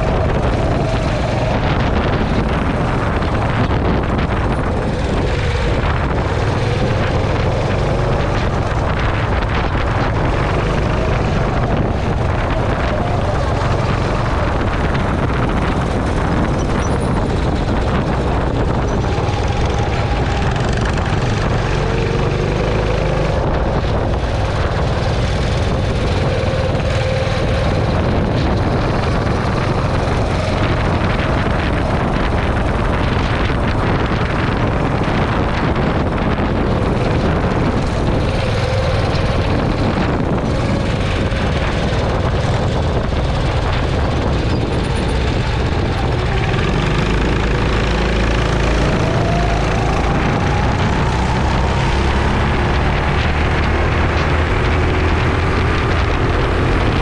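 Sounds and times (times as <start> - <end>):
go-kart engines racing: 0.0 - 57.0
wind noise: 0.0 - 57.0.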